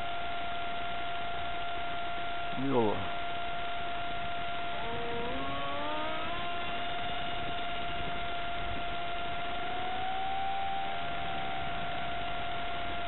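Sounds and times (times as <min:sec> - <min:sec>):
electric motor and propeller whining: 0:00.0 - 0:13.0.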